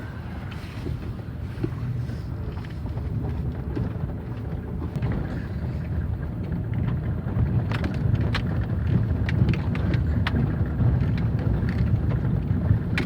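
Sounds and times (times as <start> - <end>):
tyre rumble on rough road: 0.0 - 13.0.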